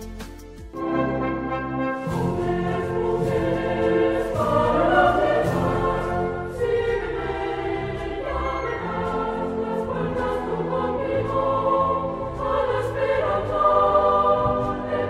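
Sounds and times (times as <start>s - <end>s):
instrumental backing music: 0.0s - 15.0s
choir singing held chords: 0.8s - 15.0s.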